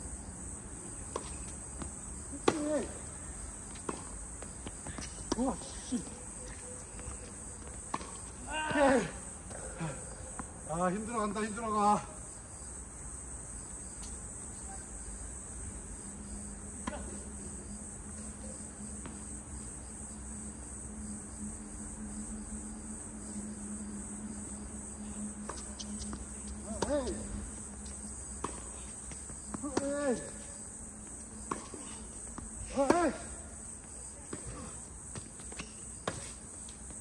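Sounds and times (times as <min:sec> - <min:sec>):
insect chorus chirring: 0:00.0 - 0:37.0.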